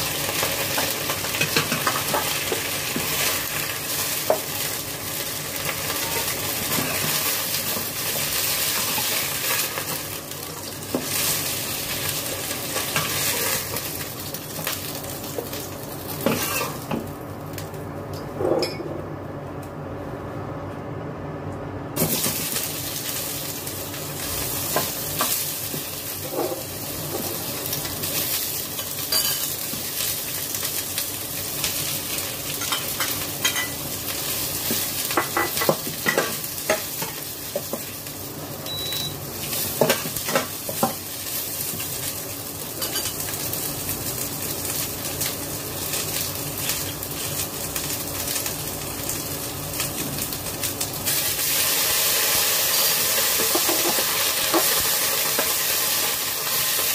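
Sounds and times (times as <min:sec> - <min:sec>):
vegetables sizzling in wok: 0:00.0 - 0:17.8, 0:22.0 - 0:56.9.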